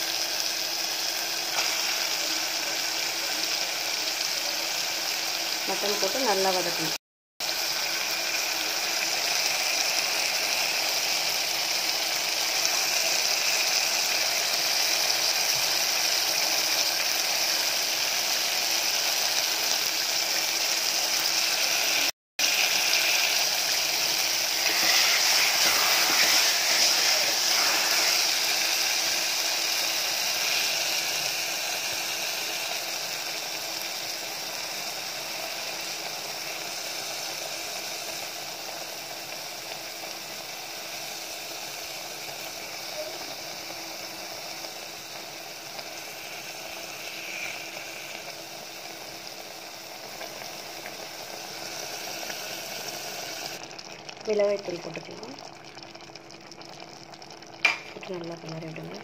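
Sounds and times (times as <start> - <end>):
meat sizzling in hot oil: 0.0 - 59.0.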